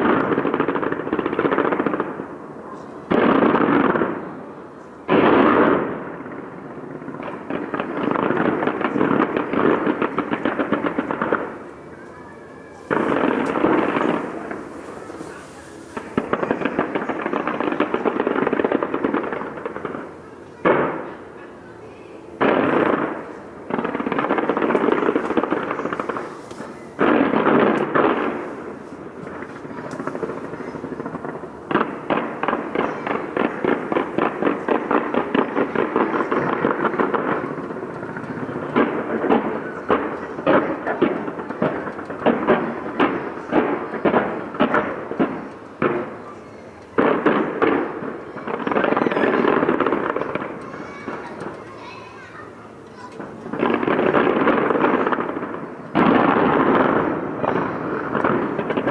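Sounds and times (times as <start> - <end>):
sharp firework bangs: 0.0 - 4.5, 5.1 - 21.3, 22.3 - 58.9
fireworks crackling: 0.0 - 58.9
fireworks exploding: 0.0 - 58.9.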